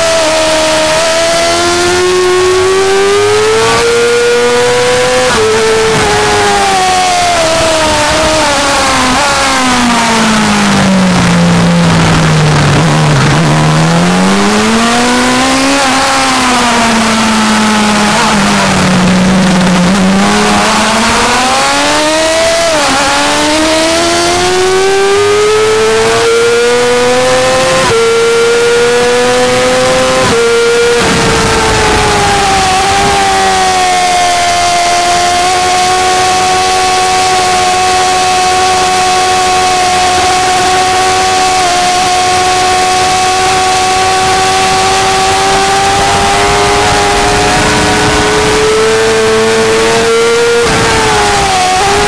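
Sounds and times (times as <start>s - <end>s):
high-revving motorcycle engine: 0.0s - 52.0s.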